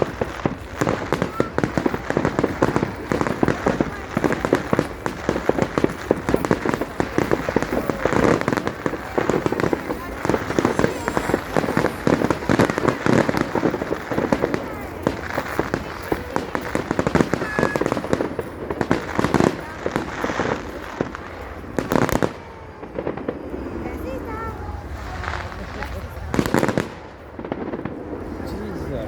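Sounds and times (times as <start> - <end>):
fireworks popping and crackling: 0.0 - 29.0.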